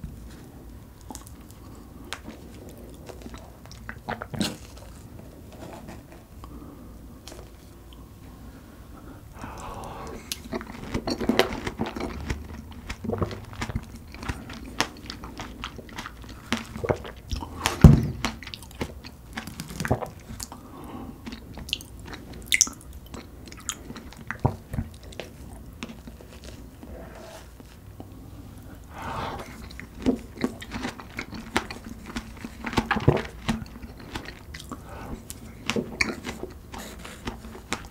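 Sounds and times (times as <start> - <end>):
chewing strawberries: 0.3 - 6.1, 9.4 - 37.9.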